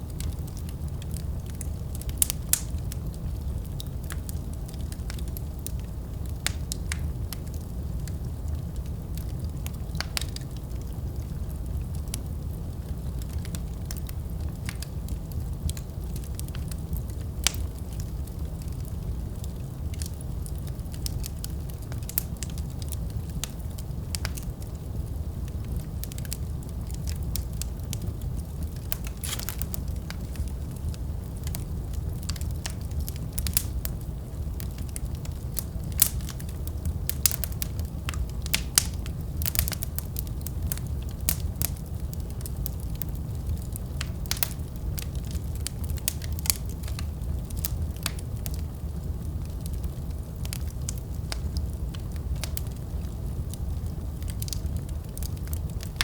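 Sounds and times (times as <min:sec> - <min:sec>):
fire popping and snapping: 0:00.0 - 0:56.0
low rush of flames: 0:00.0 - 0:56.0.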